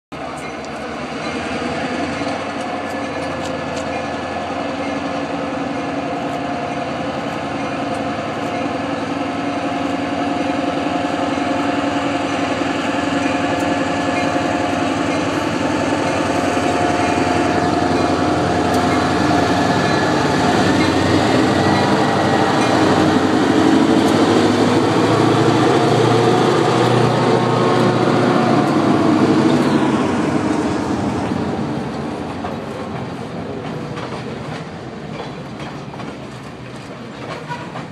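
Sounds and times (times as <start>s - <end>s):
diesel locomotives throbbing: 0.1s - 37.9s.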